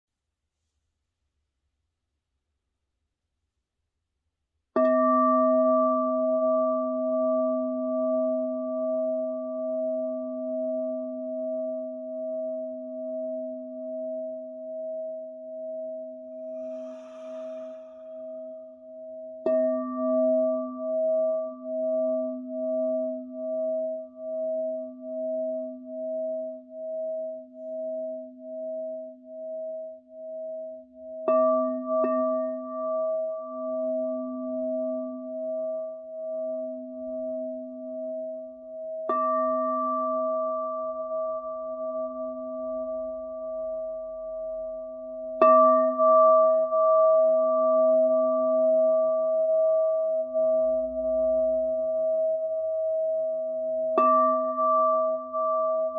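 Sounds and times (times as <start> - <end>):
singing bowl ringing: 4.8 - 55.9.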